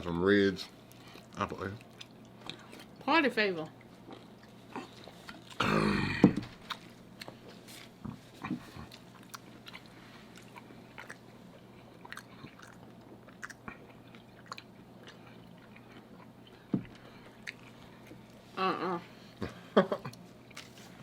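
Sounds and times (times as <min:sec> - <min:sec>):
close chewing with crunches: 0:00.8 - 0:03.0, 0:03.8 - 0:05.6, 0:06.6 - 0:18.5, 0:19.4 - 0:21.0.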